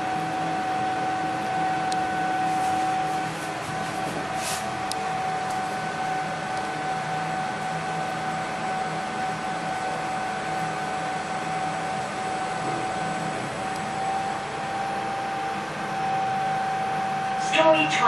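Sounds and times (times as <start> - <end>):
elevator mechanical hum: 0.0 - 18.0
high-pitched whine: 0.0 - 18.0.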